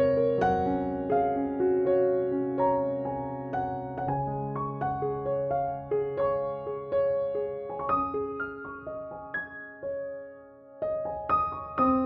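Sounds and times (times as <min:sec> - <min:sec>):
slow gentle keyboard melody: 0:00.0 - 0:12.0.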